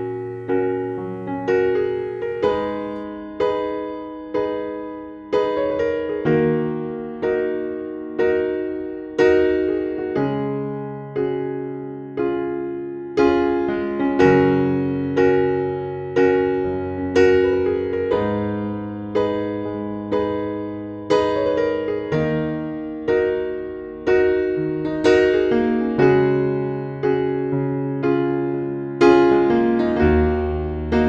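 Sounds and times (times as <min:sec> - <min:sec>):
soft electric piano chords: 0:00.0 - 0:31.0.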